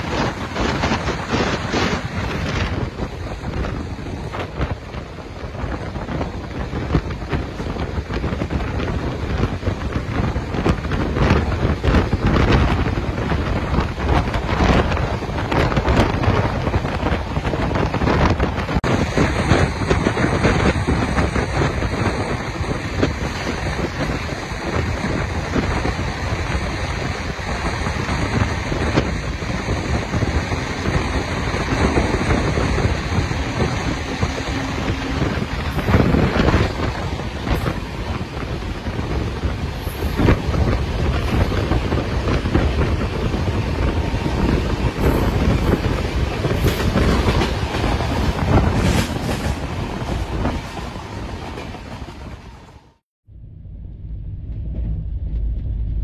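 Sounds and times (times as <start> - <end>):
wind buffeting microphone: 0.0 - 53.0
passing electric locomotive: 0.0 - 56.0
wheels rumbling on rails: 0.0 - 56.0.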